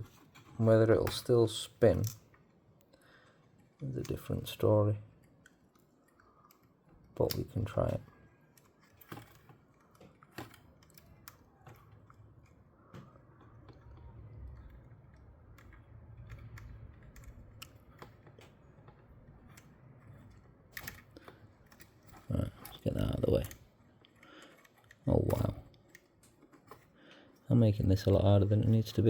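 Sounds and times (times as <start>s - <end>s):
small parts clicking and tapping: 0.0s - 29.0s.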